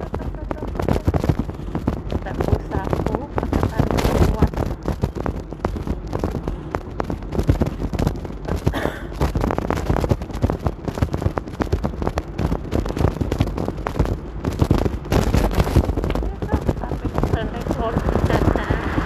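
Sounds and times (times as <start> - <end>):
rain pattering: 0.0 - 19.0
steady low rumble: 0.0 - 19.0.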